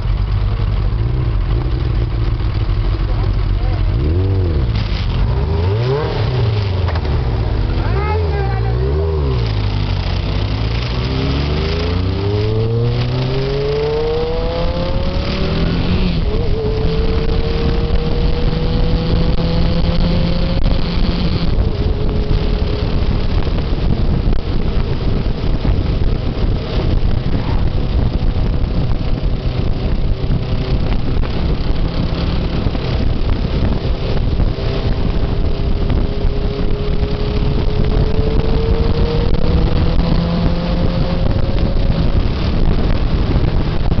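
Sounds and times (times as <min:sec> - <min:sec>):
motorcycle engine accelerating: 0:00.0 - 0:44.0
wind rushing over microphone: 0:00.0 - 0:44.0.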